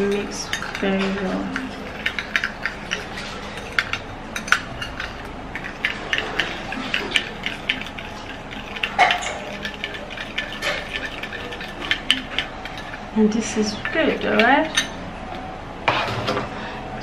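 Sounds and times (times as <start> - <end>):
metal spoon clinking on glass: 0.0 - 15.0.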